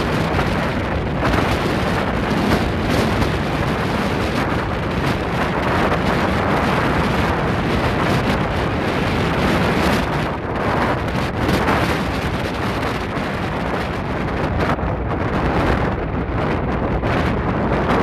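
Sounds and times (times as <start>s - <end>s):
tiltrotor aircraft hovering: 0.0s - 18.0s
wind blasting microphone: 0.0s - 18.0s.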